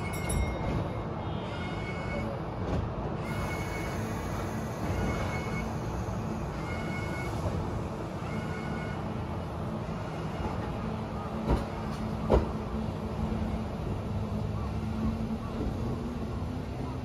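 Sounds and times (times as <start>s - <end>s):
electric train rumble and hum: 0.0s - 17.0s.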